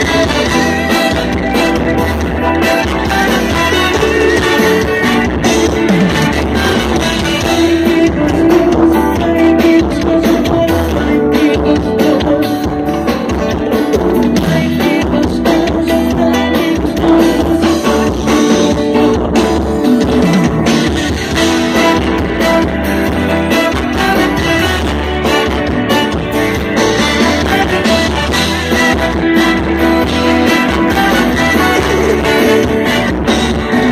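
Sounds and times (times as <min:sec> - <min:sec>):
person singing: 0:00.0 - 0:20.8, 0:26.8 - 0:33.9
electric guitar: 0:00.0 - 0:33.9
live band through pa: 0:00.0 - 0:33.9.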